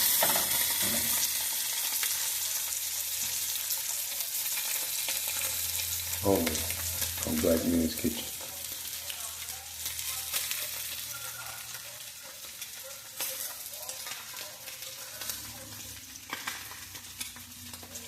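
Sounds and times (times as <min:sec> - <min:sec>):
meat sizzling in a frying pan: 0:00.0 - 0:18.0.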